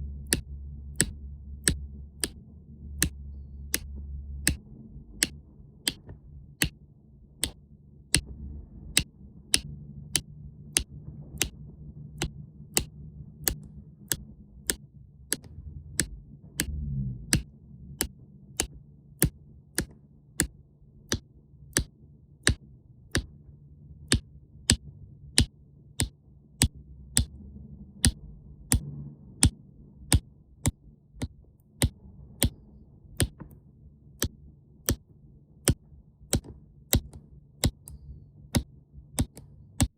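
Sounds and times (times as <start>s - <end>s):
low hum: 0.0s - 39.9s.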